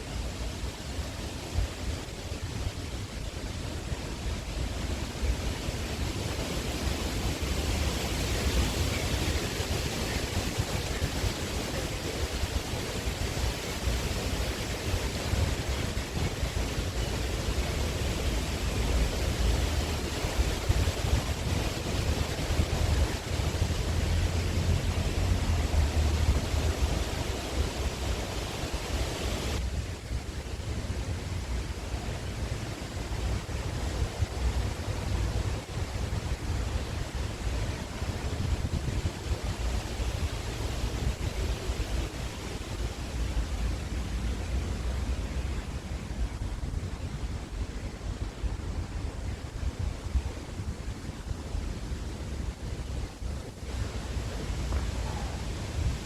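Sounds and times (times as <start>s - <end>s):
wind buffeting microphone: 0.1s - 56.0s.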